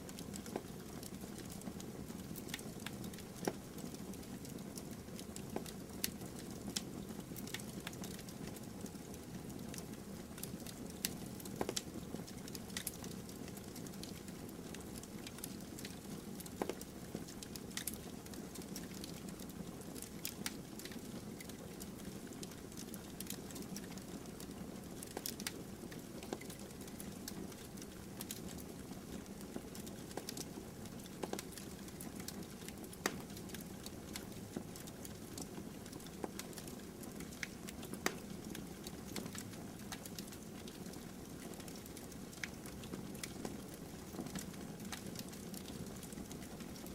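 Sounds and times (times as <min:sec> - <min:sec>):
burning wood crackling: 0:00.0 - 0:46.9.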